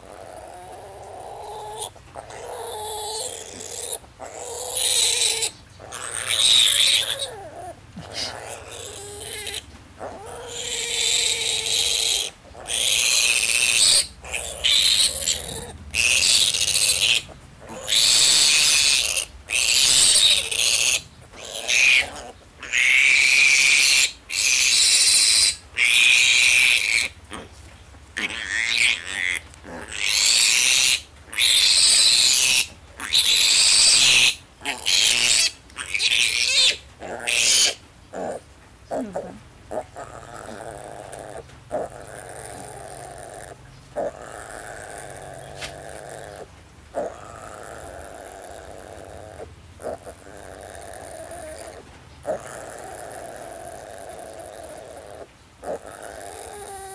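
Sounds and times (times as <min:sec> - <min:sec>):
piglet squealing: 0:00.0 - 0:27.5, 0:28.2 - 0:56.9.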